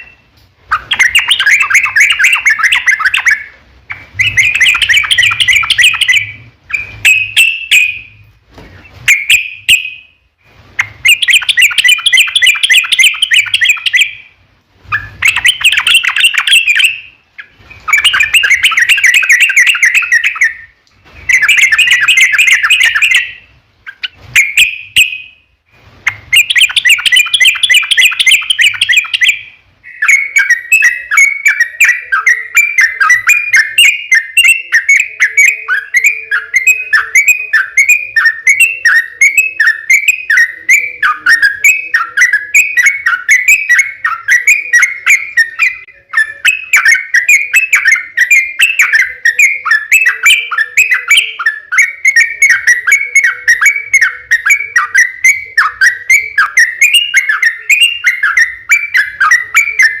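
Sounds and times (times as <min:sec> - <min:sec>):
bird singing chirping whistles: 0:00.0 - 0:08.2, 0:08.8 - 0:10.2, 0:10.8 - 1:00.0.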